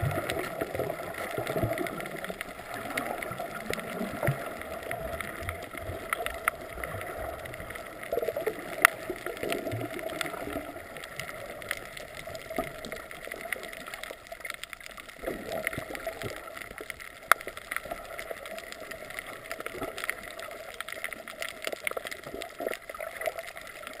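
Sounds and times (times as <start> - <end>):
clicks and crackles: 0.0 - 24.0
muffled underwater water noise: 0.0 - 24.0.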